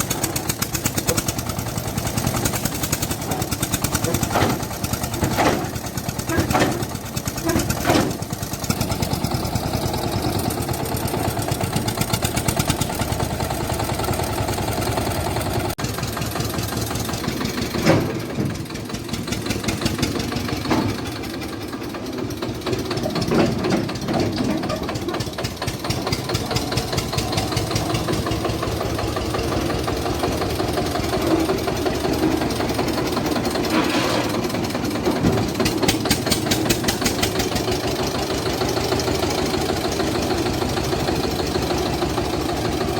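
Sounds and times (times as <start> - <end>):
engine clatters: 0.0 - 42.9
tractor diesel engine running: 0.0 - 42.9.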